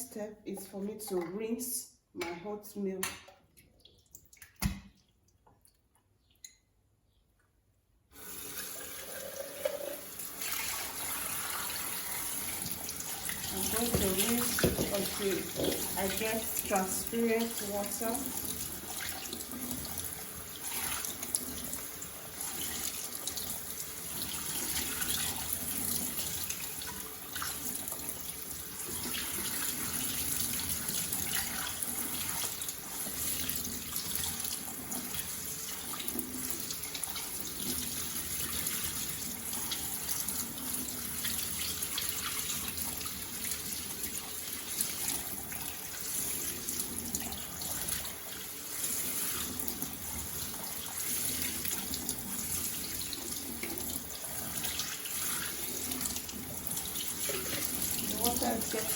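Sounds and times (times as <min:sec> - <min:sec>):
kitchen tap running water: 0:08.1 - 0:58.9.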